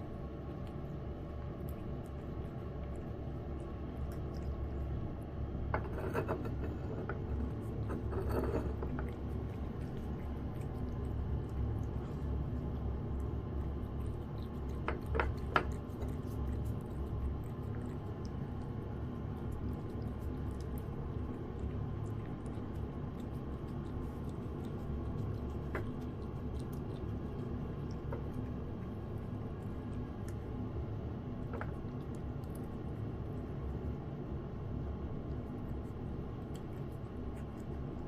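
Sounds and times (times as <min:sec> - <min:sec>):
cat eating from a dish: 0:00.0 - 0:38.0
steady low hum: 0:00.0 - 0:38.0.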